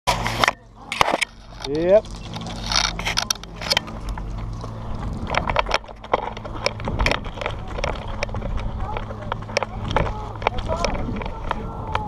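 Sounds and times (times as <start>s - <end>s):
camera handling clicks and scrapes: 0.1s - 12.0s
steady low hum: 0.1s - 12.0s.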